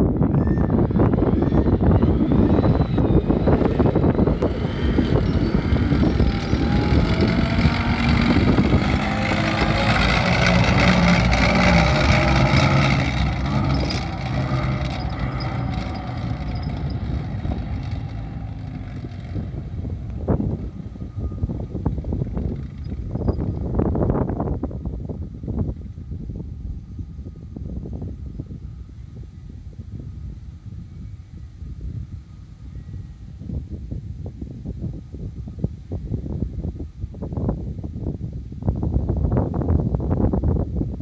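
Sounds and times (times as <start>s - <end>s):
tracked vehicle engine running: 0.0s - 41.0s.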